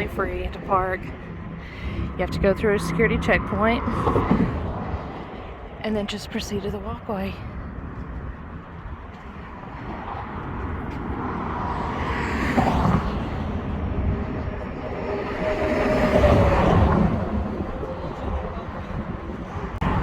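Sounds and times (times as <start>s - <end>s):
highway traffic passing: 0.0s - 20.0s.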